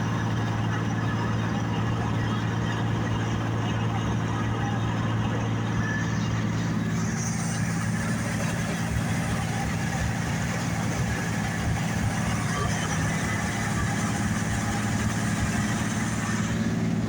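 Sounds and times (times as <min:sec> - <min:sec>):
combine diesel engine drone: 0:00.0 - 0:17.0.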